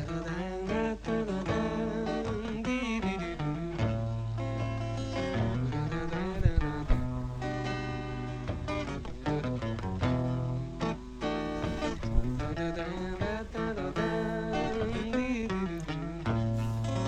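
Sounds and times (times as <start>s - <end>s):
acoustic guitar plucked and strummed: 0.0s - 17.0s.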